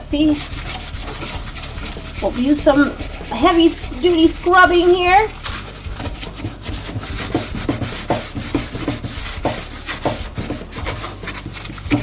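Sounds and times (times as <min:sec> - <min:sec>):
cleaning pad scrubbing: 0:00.0 - 0:12.0.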